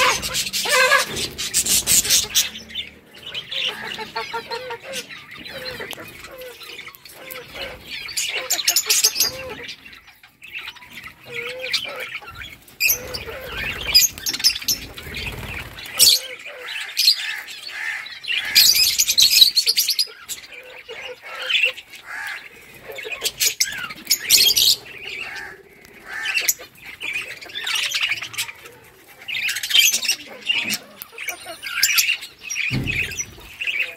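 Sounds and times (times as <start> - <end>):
budgerigars chattering: 0.0 - 33.9.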